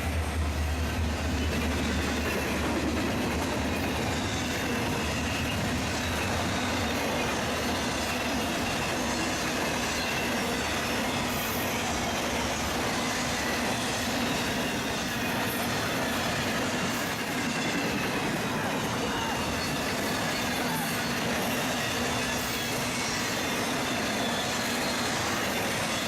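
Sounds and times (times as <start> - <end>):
freight train wheels on track: 0.0 - 26.0.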